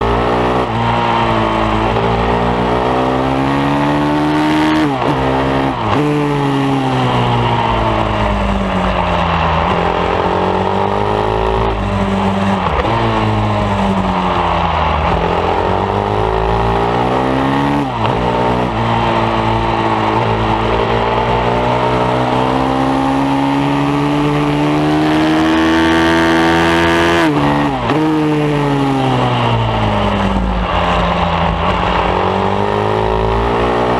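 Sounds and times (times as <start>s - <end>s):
motorbike engine revving: 0.0s - 33.9s.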